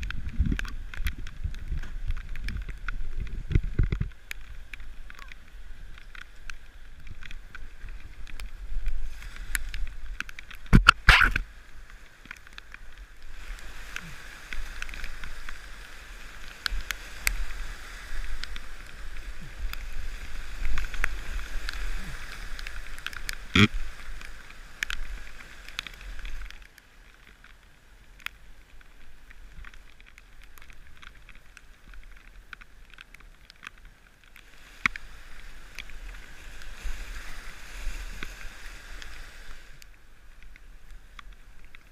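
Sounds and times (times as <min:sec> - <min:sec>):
whitewater rushing and splashing: 0:00.0 - 0:33.5, 0:34.3 - 0:41.9.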